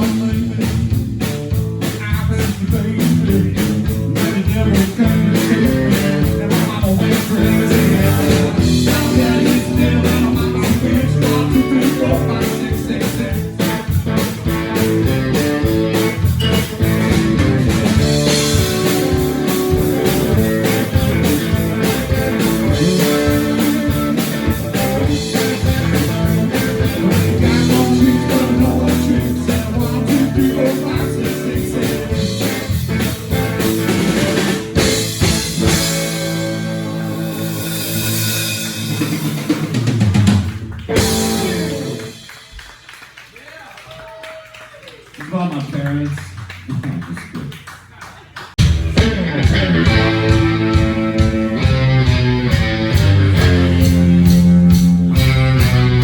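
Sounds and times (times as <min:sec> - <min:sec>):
bass guitar: 0:00.0 - 0:42.7, 0:48.6 - 0:56.0
electric guitar: 0:00.0 - 0:42.9, 0:48.6 - 0:56.0
drums beating: 0:00.0 - 0:56.0.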